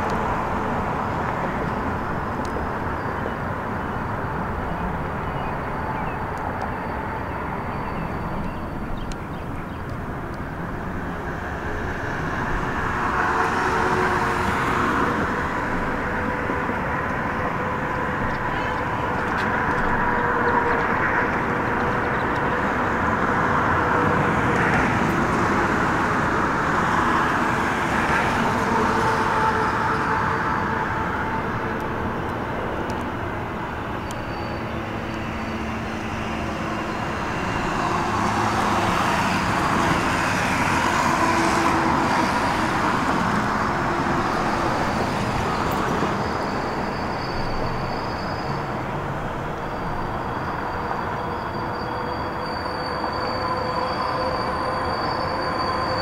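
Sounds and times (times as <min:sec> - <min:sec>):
city traffic rumble: 0:00.0 - 0:56.0
rail yard noise: 0:00.0 - 0:56.0.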